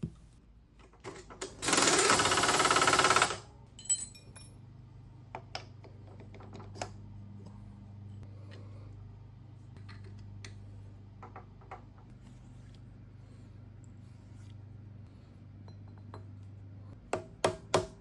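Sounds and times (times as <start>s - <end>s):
low steady hum: 3.4s - 18.0s.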